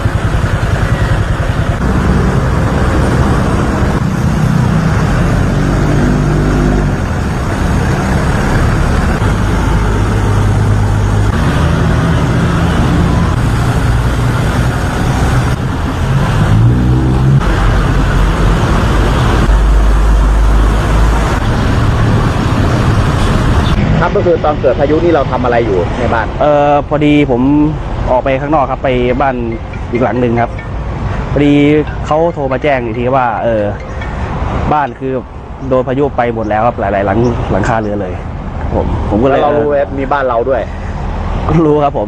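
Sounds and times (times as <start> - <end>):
engines humming: 0.0 - 42.0.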